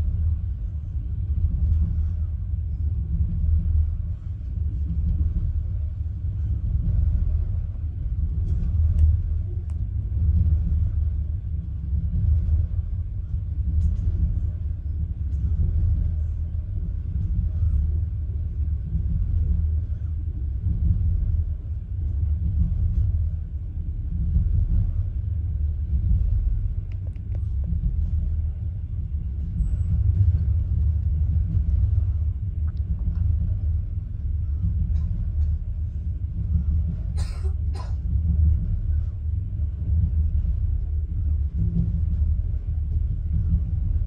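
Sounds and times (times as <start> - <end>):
train rumbling on track: 0.0 - 44.0.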